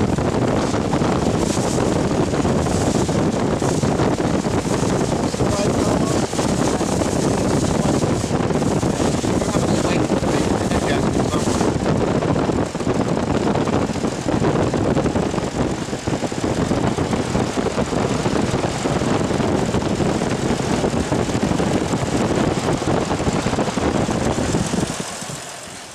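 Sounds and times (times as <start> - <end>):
petrol engine idling: 0.0 - 25.9.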